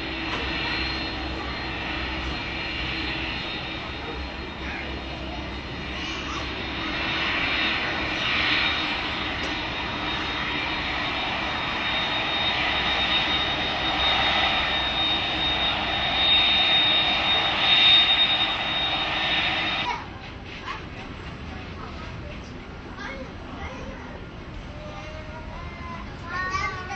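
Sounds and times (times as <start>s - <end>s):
airplane engine drone: 0.0s - 26.9s
high engine whine: 0.0s - 26.9s.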